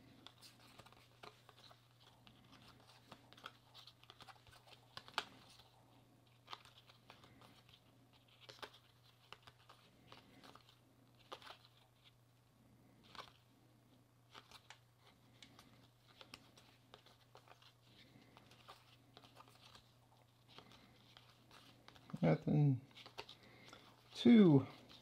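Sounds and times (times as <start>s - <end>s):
cards flicking and rustling: 0.0s - 12.2s, 12.8s - 13.5s, 14.2s - 25.0s.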